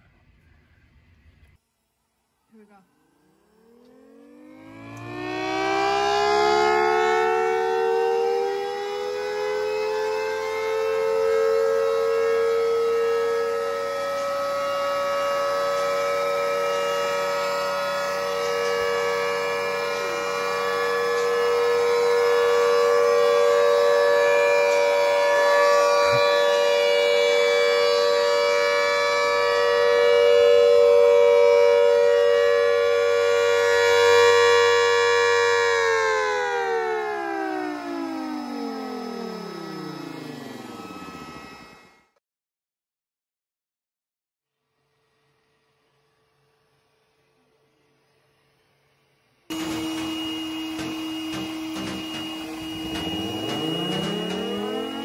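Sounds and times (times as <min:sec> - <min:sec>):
tornado siren wailing: 0:02.5 - 0:42.2, 0:49.5 - 0:55.0.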